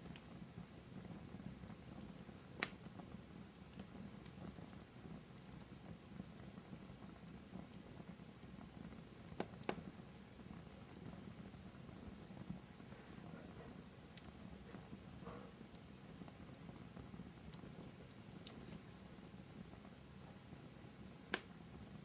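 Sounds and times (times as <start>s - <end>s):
fire popping: 0.0s - 22.0s
fireplace fire crackling: 0.0s - 22.0s.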